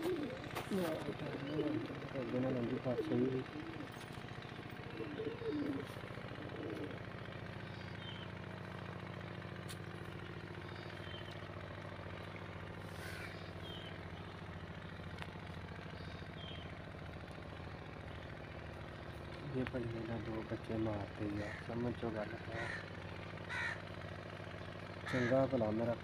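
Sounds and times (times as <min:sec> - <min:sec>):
low engine hum: 0:00.0 - 0:26.0
small birds chirping: 0:00.0 - 0:26.0.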